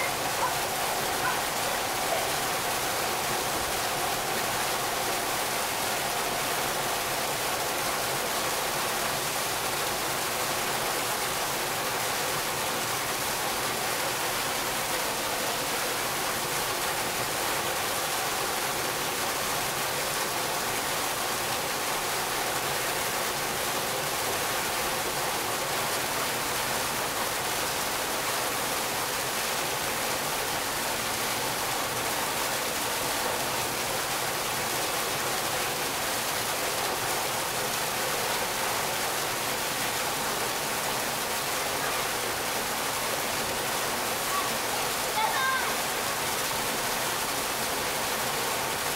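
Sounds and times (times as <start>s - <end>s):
waterfall splashing into pool: 0.0s - 48.9s.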